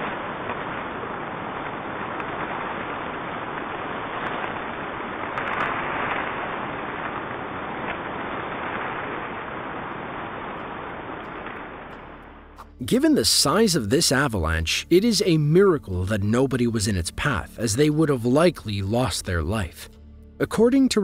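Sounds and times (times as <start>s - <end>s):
avalanche of snow rushing: 0.0s - 18.3s.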